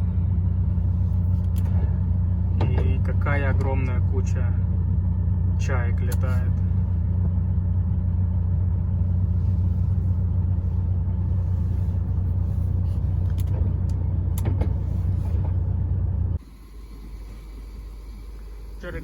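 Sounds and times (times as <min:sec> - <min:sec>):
heavy truck engine rumbling: 0:00.0 - 0:19.0.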